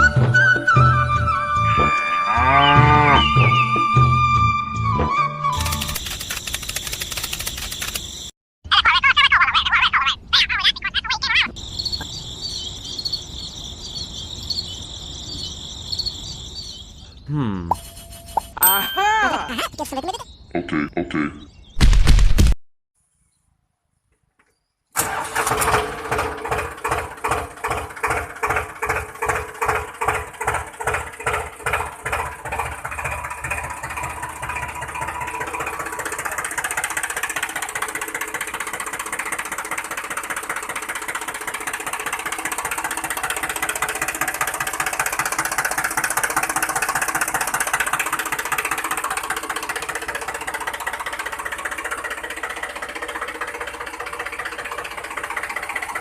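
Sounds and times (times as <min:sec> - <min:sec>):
engine chugging: 0:00.0 - 0:08.3, 0:11.3 - 0:20.0, 0:25.0 - 0:56.0.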